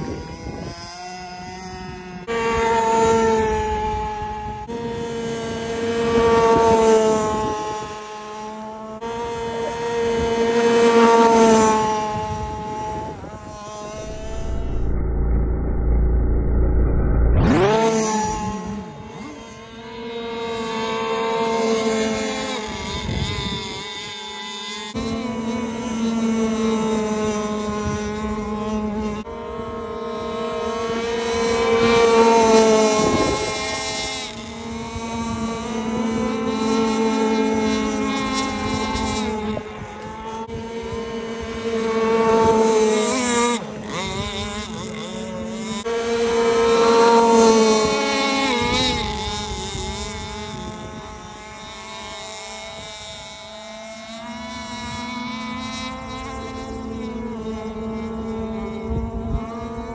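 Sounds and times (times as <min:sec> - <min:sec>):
model boat engines buzzing: 0:00.0 - 0:59.9.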